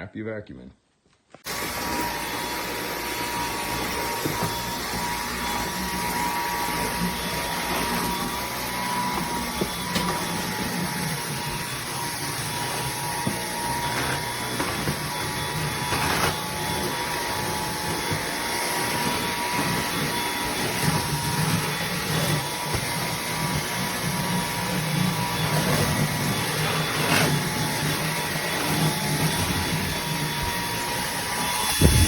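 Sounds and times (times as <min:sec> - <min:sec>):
cordless vacuum cleaner running: 0:01.4 - 0:32.0.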